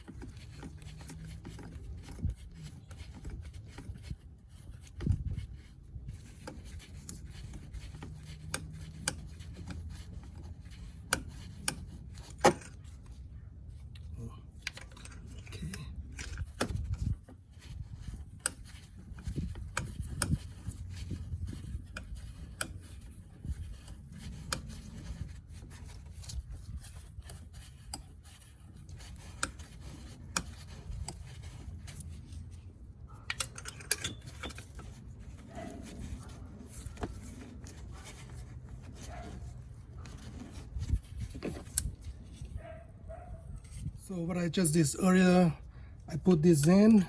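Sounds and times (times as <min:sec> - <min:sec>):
metallic clicks and rubbing: 0:00.0 - 0:13.2, 0:14.6 - 0:44.0.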